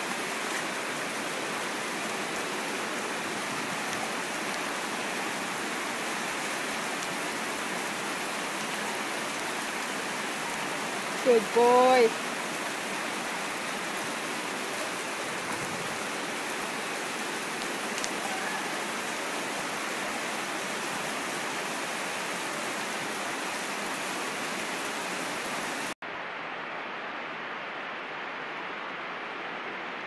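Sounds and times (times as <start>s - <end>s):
heavy rain on the ground: 0.0s - 30.0s.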